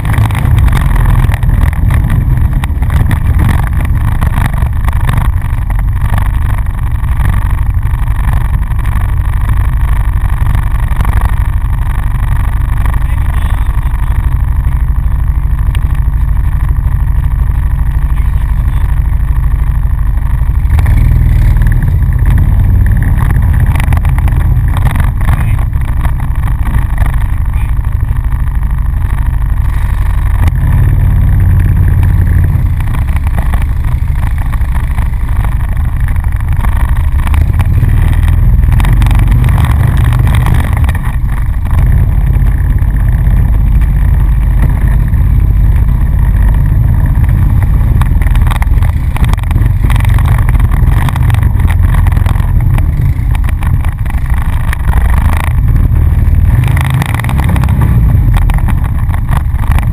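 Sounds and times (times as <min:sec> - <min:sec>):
quad bike engine rumble: 0:00.0 - 0:59.9.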